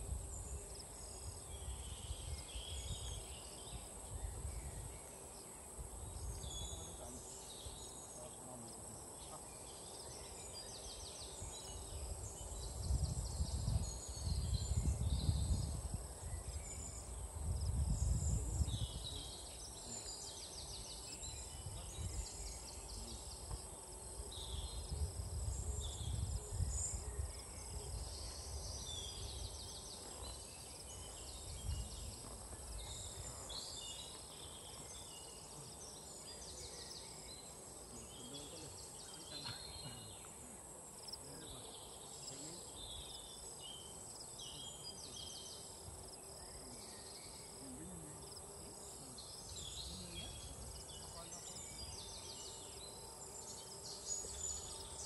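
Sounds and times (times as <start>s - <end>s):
insects chirping: 0.0s - 55.0s
birds chirping: 0.4s - 55.0s.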